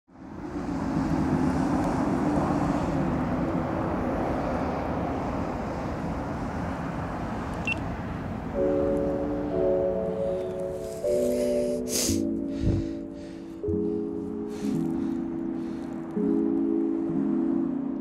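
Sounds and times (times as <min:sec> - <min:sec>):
distant vehicle rumble: 0:00.1 - 0:18.0.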